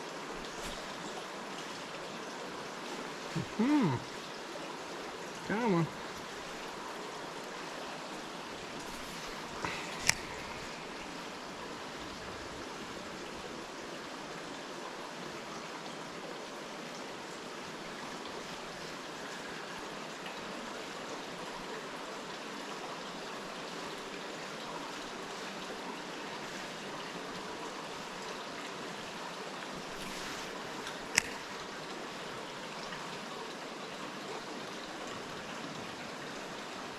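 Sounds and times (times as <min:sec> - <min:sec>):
river water over rocks: 0:00.0 - 0:36.9.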